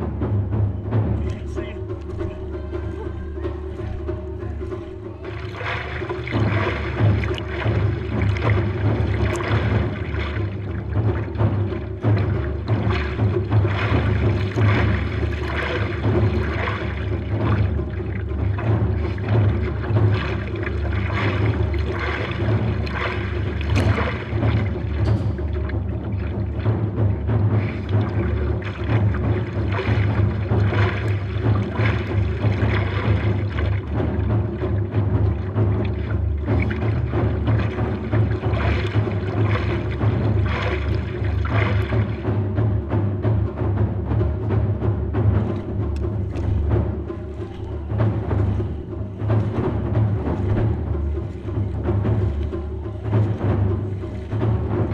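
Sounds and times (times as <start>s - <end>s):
low rumble: 0.0s - 54.9s
water rushing along board: 0.0s - 54.9s
hands paddling water: 1.0s - 54.9s.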